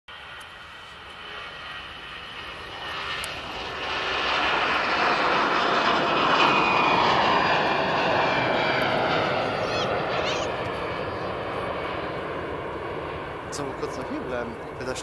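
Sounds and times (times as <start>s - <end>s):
jet engines at take-off thrust: 0.1s - 15.0s.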